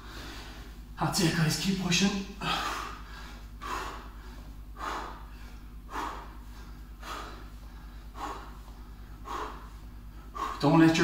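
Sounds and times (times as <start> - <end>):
man breathing hard: 0.0 - 0.9, 2.2 - 11.0.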